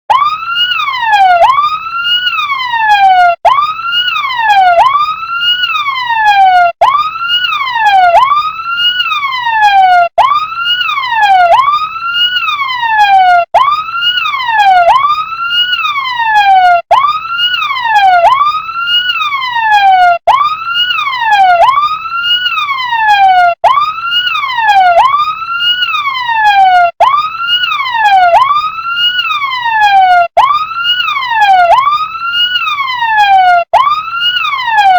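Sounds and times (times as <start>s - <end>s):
toy fire truck siren wailing: 0.1s - 34.9s.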